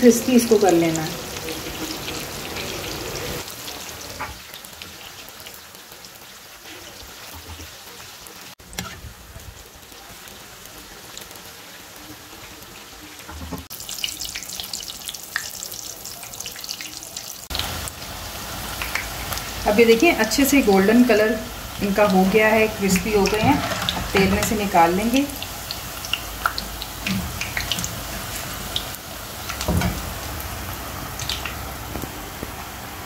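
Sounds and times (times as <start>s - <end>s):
deep-frying sizzle with crackling: 0.0s - 33.0s.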